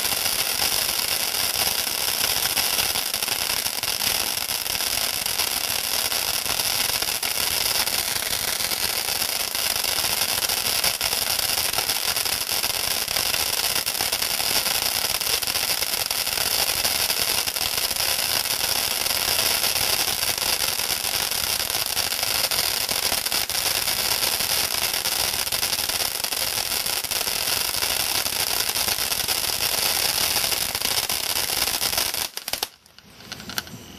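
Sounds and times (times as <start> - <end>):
firework fountain hissing and crackling: 0.0 - 33.8.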